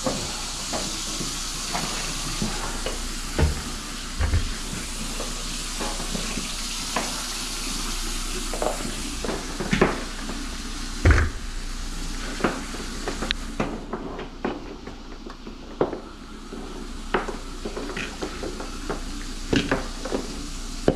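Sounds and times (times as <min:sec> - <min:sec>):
drain-cleaning machine hissing and humming: 0:00.0 - 0:20.9.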